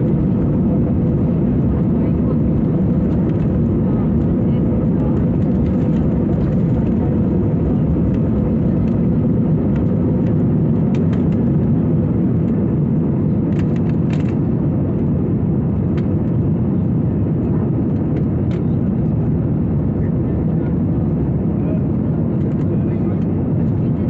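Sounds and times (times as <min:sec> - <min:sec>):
jet engine and airflow rush: 0:00.0 - 0:24.0.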